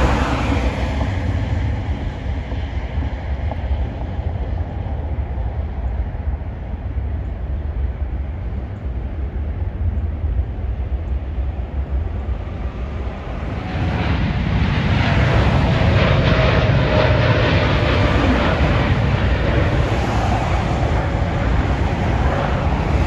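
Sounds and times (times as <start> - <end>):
jet aircraft rumble: 0.0 - 23.0
wind on microphone: 0.0 - 23.0.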